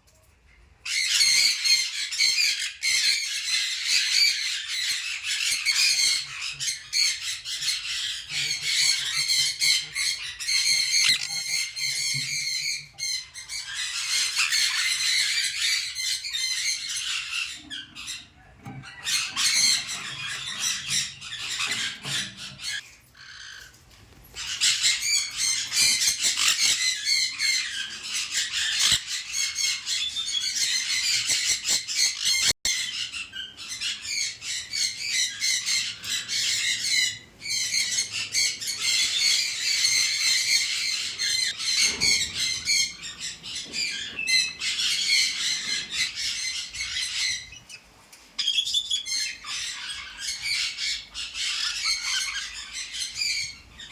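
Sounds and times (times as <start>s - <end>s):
many birds calling: 0.9s - 53.9s.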